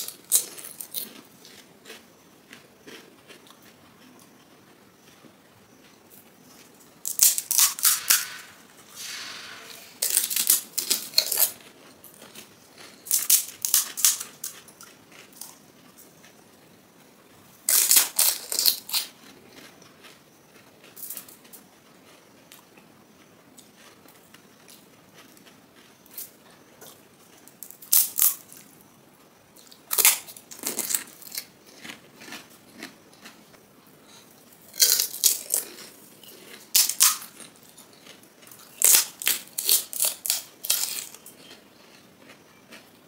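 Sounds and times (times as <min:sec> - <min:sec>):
crisp shells crunching when chewed: 0:00.0 - 0:04.6, 0:06.6 - 0:08.6, 0:10.0 - 0:16.4, 0:17.7 - 0:28.7, 0:29.6 - 0:43.0.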